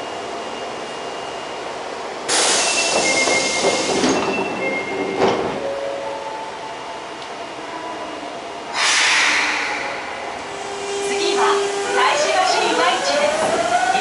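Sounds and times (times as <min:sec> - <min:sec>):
subway car rail noise: 0:00.0 - 0:14.0.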